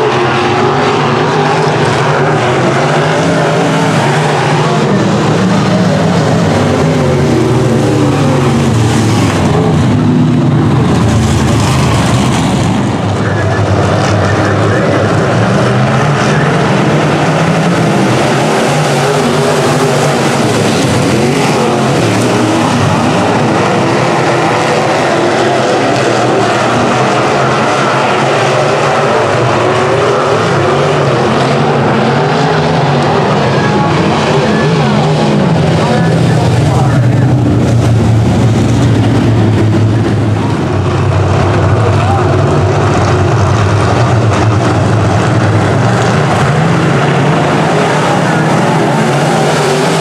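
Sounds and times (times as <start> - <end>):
race car engines running hard: 0.0 - 50.0.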